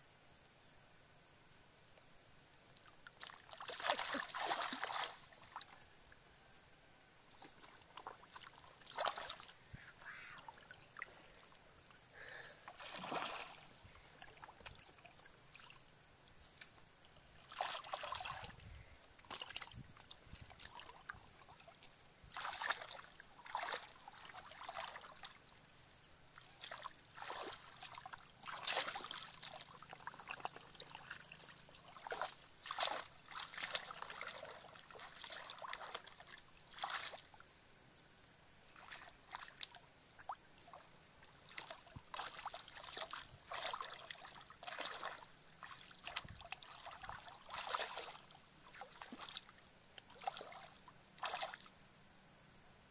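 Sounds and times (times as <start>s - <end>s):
muddy water splashing: 2.8s - 5.9s, 7.3s - 37.4s, 38.7s - 51.8s.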